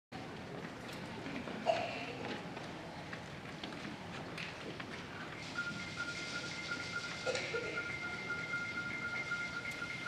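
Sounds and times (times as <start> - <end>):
audience rustling and murmur: 0.2 - 10.0.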